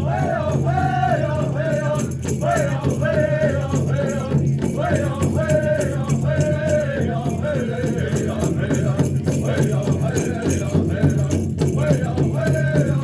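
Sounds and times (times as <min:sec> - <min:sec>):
evenly repeating rattle: 0:00.0 - 0:13.0
person singing wavering phrases: 0:00.0 - 0:13.0
steady drum: 0:00.0 - 0:13.0.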